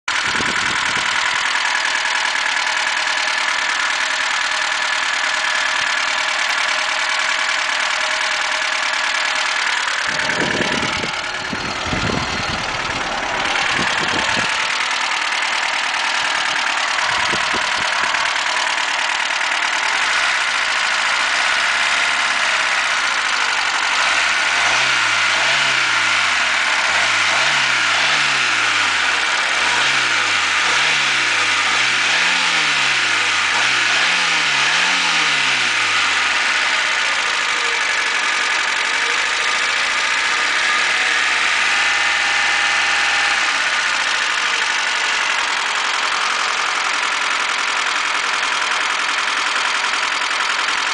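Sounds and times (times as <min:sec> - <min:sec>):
car engine idling: 0:00.1 - 0:50.9
engine revving: 0:00.1 - 0:50.9.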